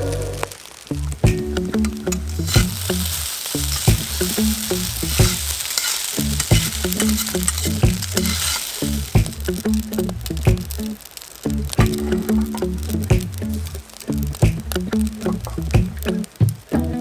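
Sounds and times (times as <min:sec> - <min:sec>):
background music with bass and beat: 0:00.0 - 0:05.5, 0:06.2 - 0:10.9, 0:11.5 - 0:17.0
food sizzling in a skillet: 0:00.0 - 0:17.0.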